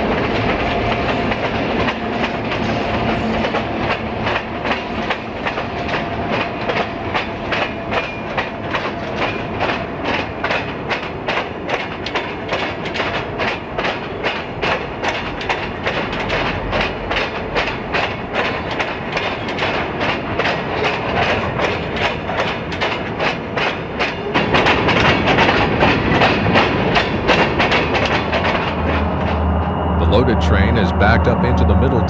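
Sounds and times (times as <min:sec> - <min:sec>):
wheels clacking over rail joints: 0:00.0 - 0:30.2
freight train rolling past: 0:00.0 - 0:32.0.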